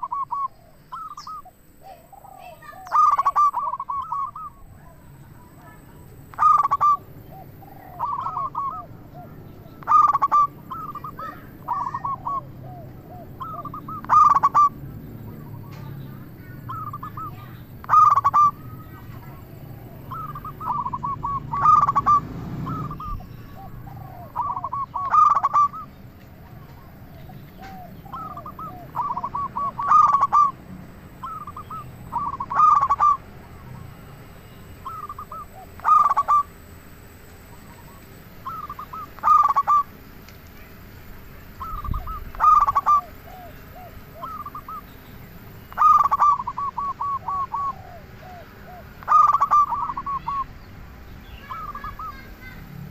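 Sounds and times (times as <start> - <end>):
dove cooing: 0.0 - 50.6, 51.2 - 52.9.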